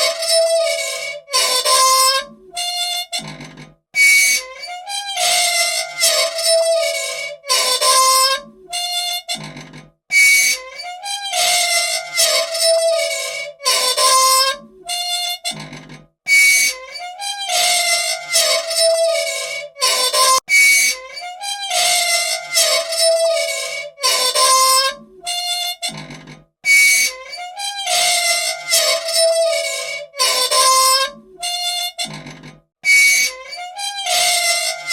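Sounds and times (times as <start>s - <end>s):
machine squeaking: 0.0s - 34.9s.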